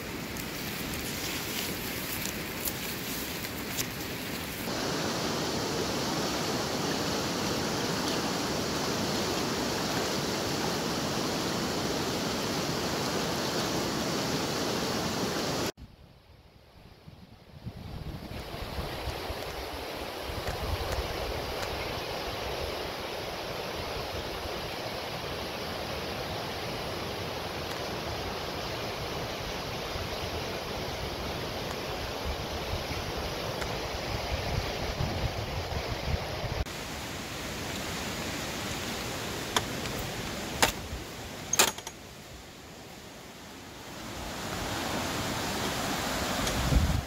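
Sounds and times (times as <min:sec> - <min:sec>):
water rushing over rapids: 0:00.0 - 0:15.7, 0:18.4 - 0:47.0.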